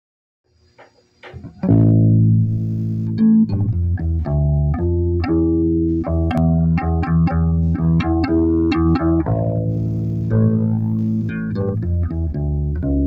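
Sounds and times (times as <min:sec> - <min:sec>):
guitar scratches: 0:00.7 - 0:13.0
guitar chord and plucked notes: 0:01.5 - 0:13.0.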